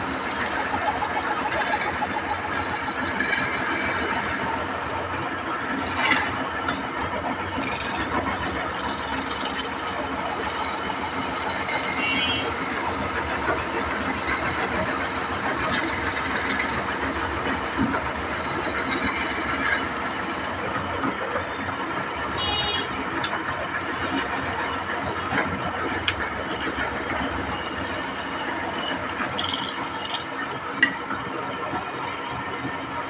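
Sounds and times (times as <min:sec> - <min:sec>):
mechanical rattling and scraping: 0:00.0 - 0:33.0.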